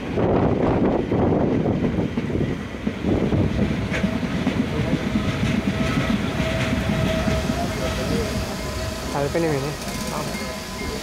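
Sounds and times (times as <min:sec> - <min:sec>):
train wheels clacking on rails: 0:00.0 - 0:11.0.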